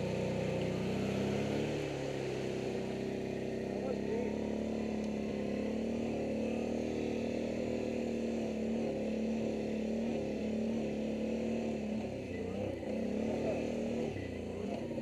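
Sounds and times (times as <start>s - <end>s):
atv engine running steadily: 0.0s - 15.0s.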